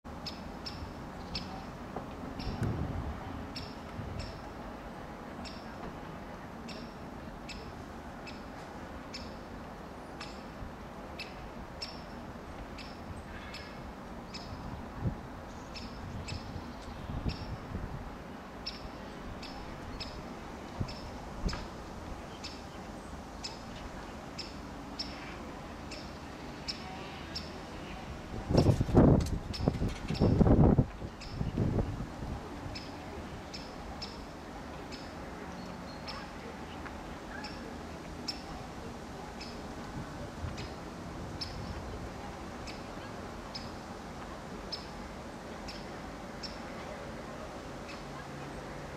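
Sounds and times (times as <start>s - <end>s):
low background noise: 0.0s - 48.9s.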